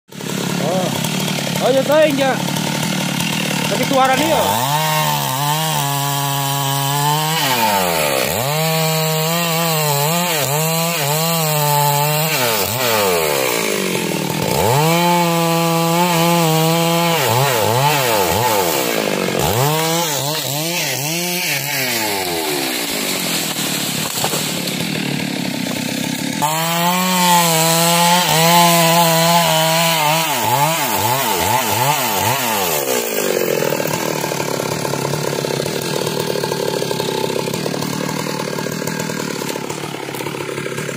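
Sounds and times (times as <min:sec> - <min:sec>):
chainsaw cutting wood: 0:00.1 - 0:40.9.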